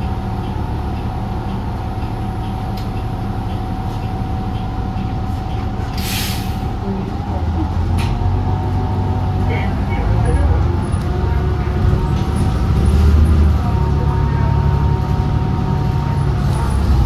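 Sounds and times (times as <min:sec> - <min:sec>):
bus drivetrain rumble: 0:00.0 - 0:17.0.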